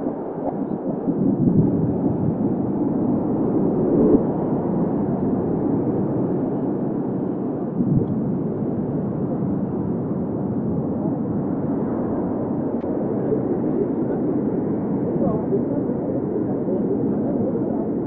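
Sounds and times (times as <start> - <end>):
low rumbling ambience: 0.0 - 18.0.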